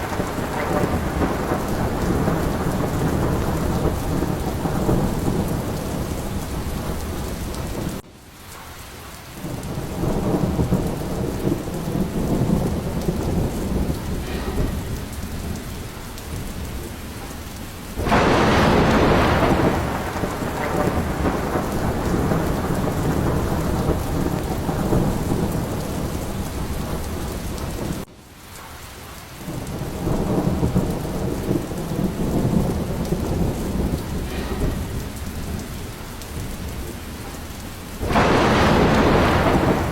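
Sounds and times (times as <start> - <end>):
sharp thunderclap: 0.0 - 8.0, 9.4 - 28.1, 29.5 - 39.9
rolling thunder rumbles: 0.0 - 28.1, 29.4 - 39.9
heavy rain: 0.0 - 39.9.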